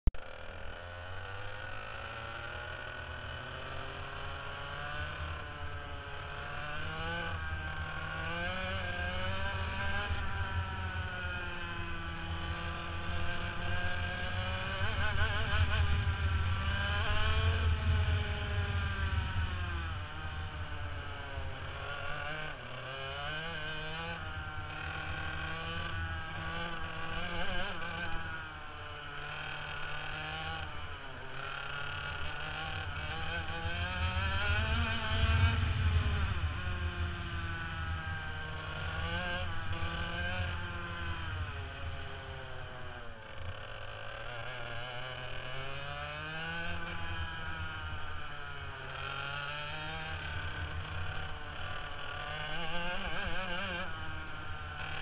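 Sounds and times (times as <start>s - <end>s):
go-kart engine revving: 0.1s - 55.0s.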